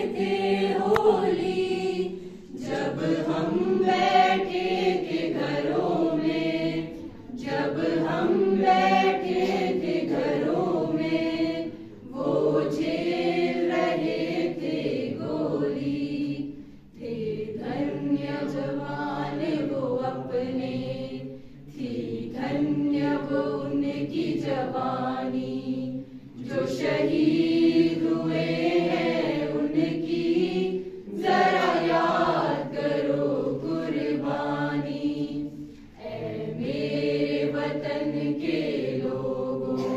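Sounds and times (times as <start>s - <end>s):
group singing unaccompanied: 0.0s - 39.9s.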